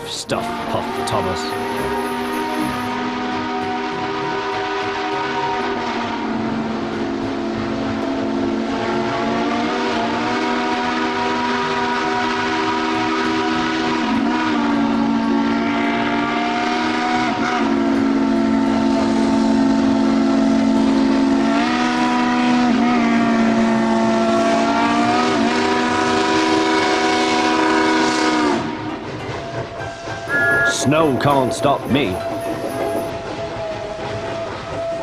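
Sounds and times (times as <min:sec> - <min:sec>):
steam locomotive whistle: 0:00.3 - 0:35.0.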